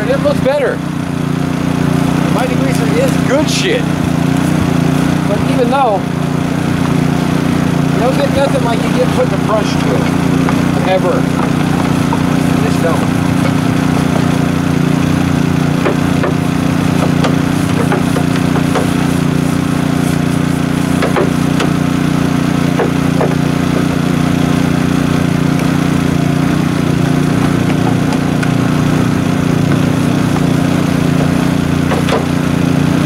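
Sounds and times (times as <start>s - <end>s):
small engine idling: 0.0s - 33.0s
brush scrubbing plastic: 6.5s - 33.0s.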